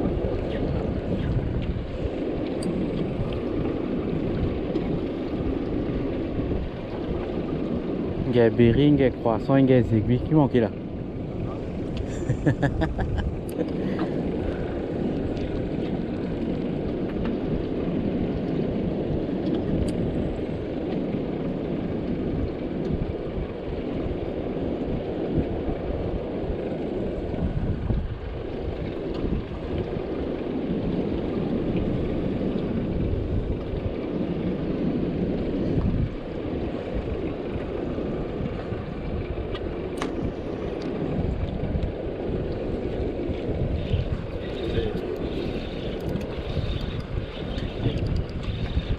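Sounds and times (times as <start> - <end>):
motorboat engine rumbling: 0.0 - 48.9
wind buffeting microphone: 0.0 - 48.9.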